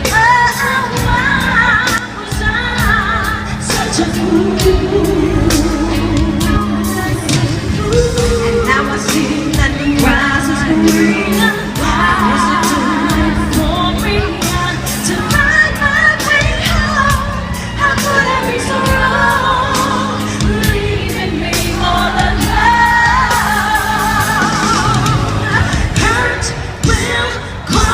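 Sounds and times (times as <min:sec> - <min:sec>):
person singing with vibrato: 0:00.0 - 0:27.9.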